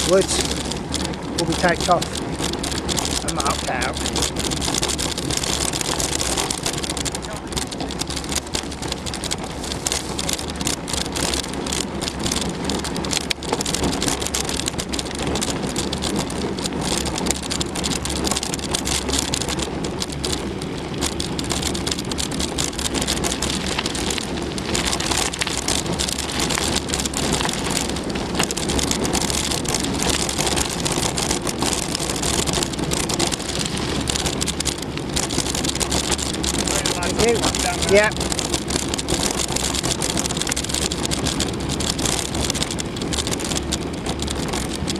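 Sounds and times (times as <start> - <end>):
bike rattling: 0.0 - 44.9
bike tyres crackling on wet trail: 0.0 - 44.9.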